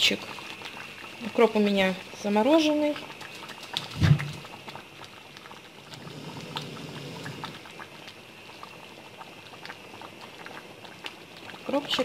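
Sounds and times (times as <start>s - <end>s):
pot bubbling at a simmer: 0.0s - 12.0s.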